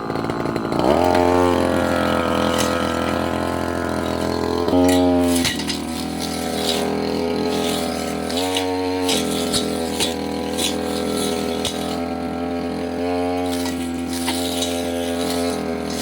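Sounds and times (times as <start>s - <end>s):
brush cutter engine running: 0.0s - 16.0s
blade ticking against brush: 2.4s - 16.0s.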